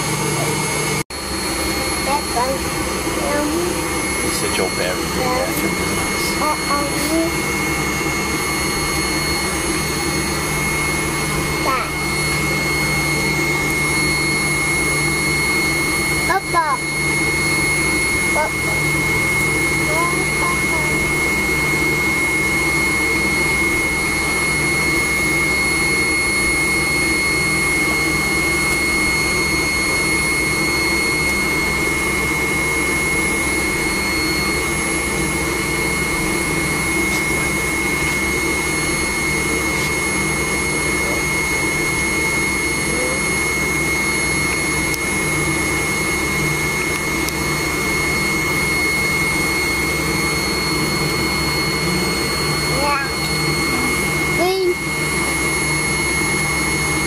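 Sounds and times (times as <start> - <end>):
jet engine whine in cabin: 0.0 - 57.0.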